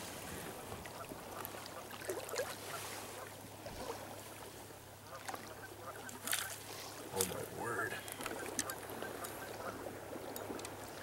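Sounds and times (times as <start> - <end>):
shallow water splashing: 0.0 - 11.0.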